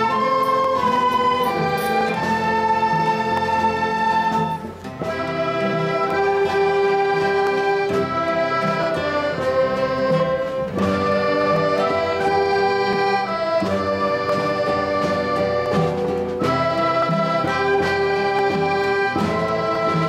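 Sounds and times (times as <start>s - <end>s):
recorders and guitars playing: 0.0s - 20.0s.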